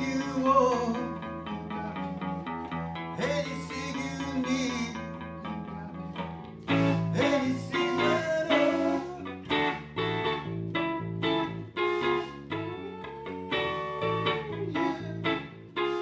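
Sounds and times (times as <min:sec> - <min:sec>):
electric guitar with band: 0:00.0 - 0:16.0.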